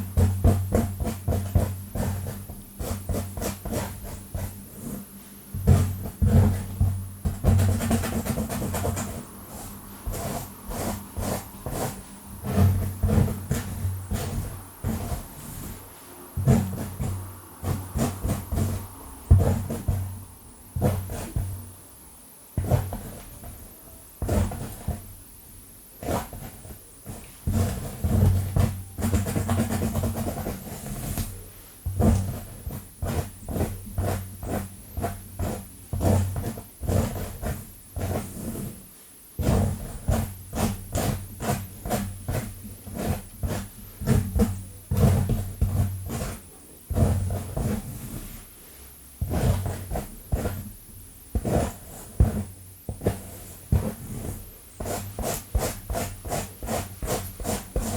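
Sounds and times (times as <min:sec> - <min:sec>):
fingernails scratching hair and scalp: 0:00.2 - 0:20.2, 0:20.8 - 0:21.6, 0:22.6 - 0:25.1, 0:26.0 - 0:31.4, 0:32.0 - 0:38.8, 0:39.4 - 0:48.5, 0:49.2 - 0:57.9.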